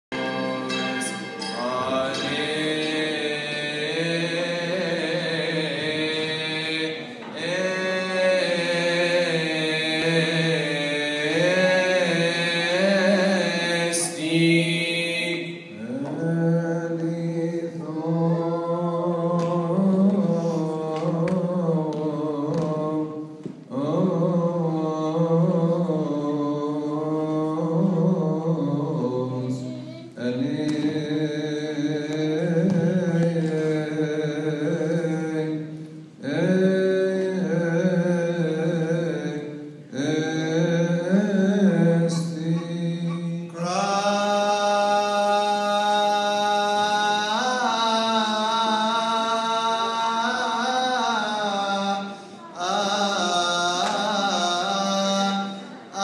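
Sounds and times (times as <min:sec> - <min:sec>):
men chanting a hymn: 0:01.4 - 0:29.4, 0:30.2 - 0:56.0.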